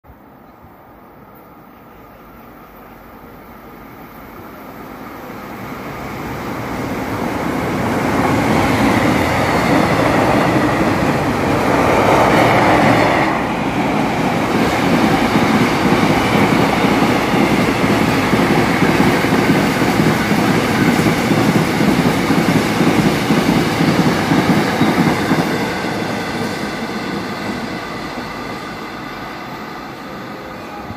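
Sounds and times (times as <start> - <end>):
loud rush of passing train: 0.1 - 30.9
train wheels rumbling on rail: 1.3 - 30.9.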